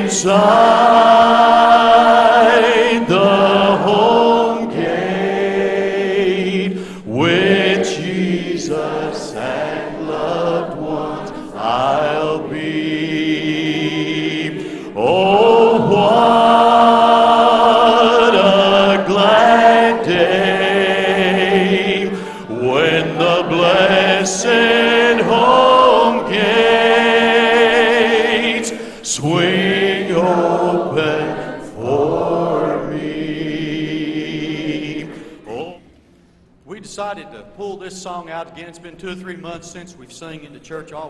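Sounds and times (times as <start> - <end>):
man singing gospel song: 0.0 - 33.7.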